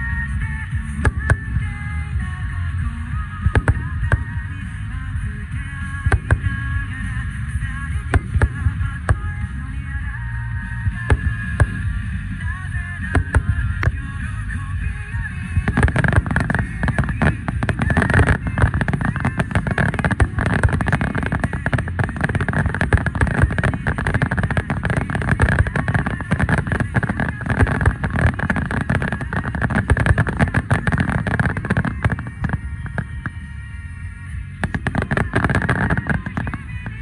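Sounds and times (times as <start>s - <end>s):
deep rumble: 0.0s - 37.0s
fireworks bangs and crackling: 0.0s - 37.0s.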